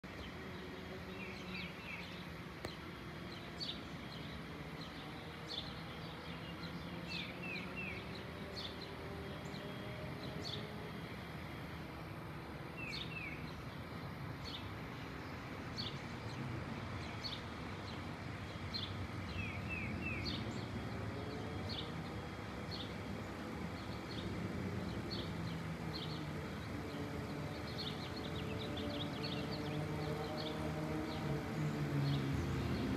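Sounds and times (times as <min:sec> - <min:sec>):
small birds chirping: 0:00.1 - 0:11.2, 0:12.8 - 0:32.9
distant jet engine rumble: 0:01.8 - 0:32.9.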